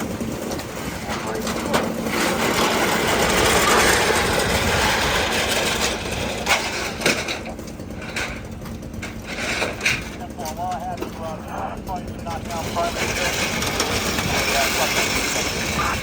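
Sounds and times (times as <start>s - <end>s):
broad rushing noise: 0.0s - 7.9s, 9.1s - 16.0s
vehicle engine idling: 0.0s - 16.0s.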